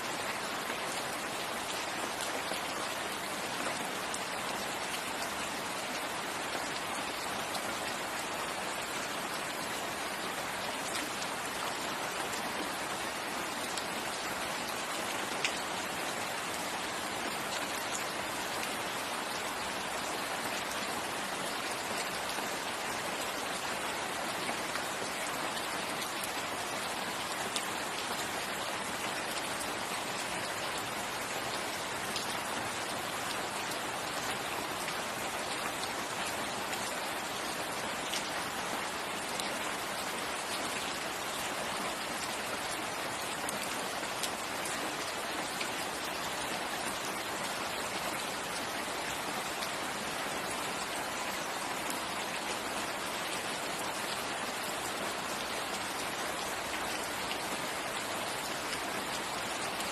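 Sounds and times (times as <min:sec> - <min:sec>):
rain falling in a forest: 0:00.0 - 0:59.9.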